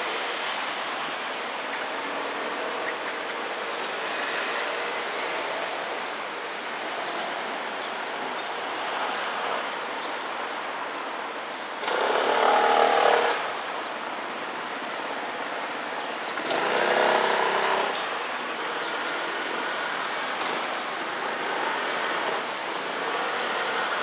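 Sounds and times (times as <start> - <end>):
traffic hum: 0.0 - 24.0
vehicles passing: 0.0 - 24.0.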